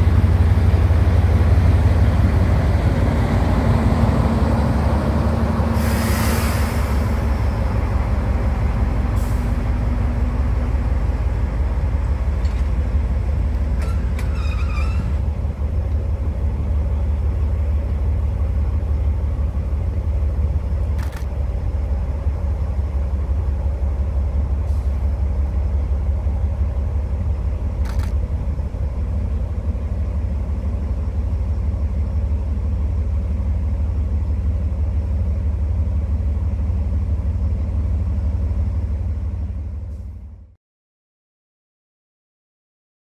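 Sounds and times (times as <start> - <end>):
diesel locomotive engine rumbling: 0.0 - 40.6.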